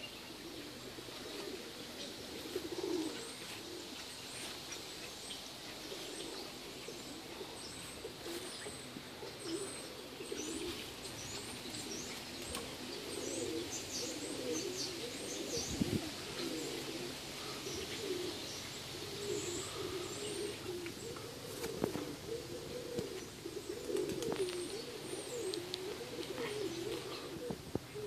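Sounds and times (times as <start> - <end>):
doves cooing: 0.0 - 28.0
small birds chirping: 0.0 - 28.0.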